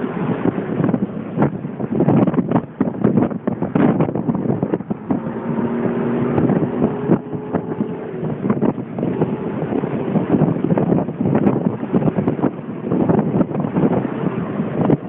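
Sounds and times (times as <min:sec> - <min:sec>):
car engine steady note: 0:00.0 - 0:15.0
wind buffeting microphone: 0:00.0 - 0:15.0.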